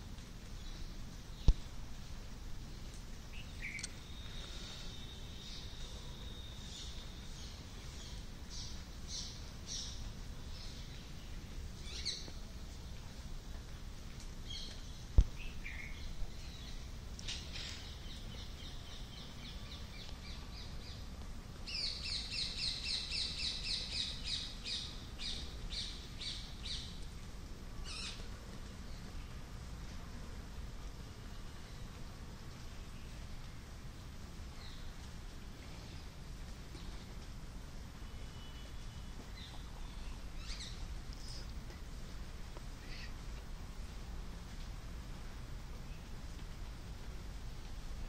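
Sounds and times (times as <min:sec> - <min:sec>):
rain hiss: 0:00.0 - 0:48.0.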